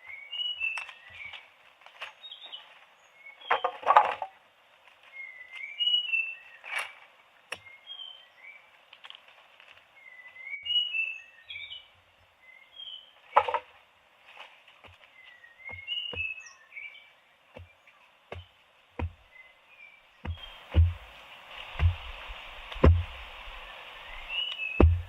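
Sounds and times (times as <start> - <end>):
small birds chirping: 0.0 - 3.9, 4.9 - 8.9, 9.8 - 13.4, 14.7 - 25.0.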